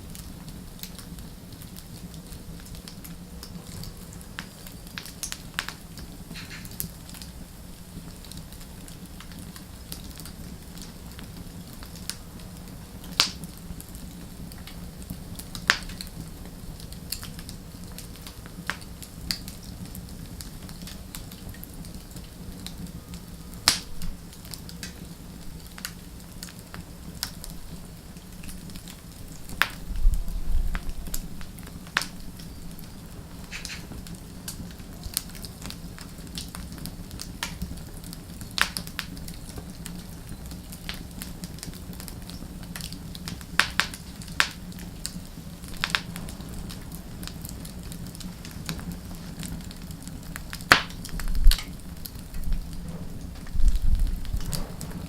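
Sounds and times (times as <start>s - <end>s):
crackles and pops of burning logs: 0.0s - 55.0s
low rumble of flame: 0.0s - 55.0s.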